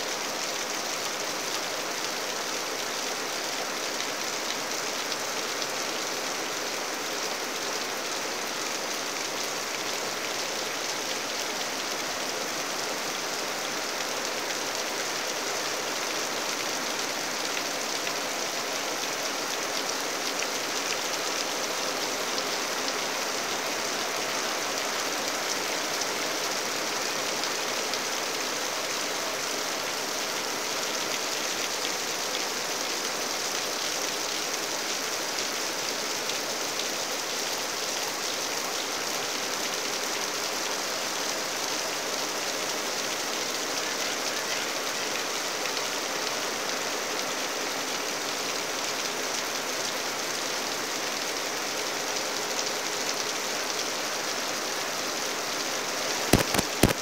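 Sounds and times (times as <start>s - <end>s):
rain falling on foliage: 0.0s - 57.0s.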